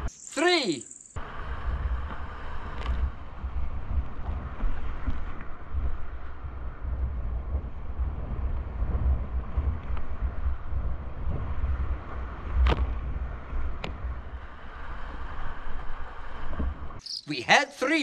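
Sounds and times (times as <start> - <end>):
wind buffeting microphone: 1.2 - 17.0.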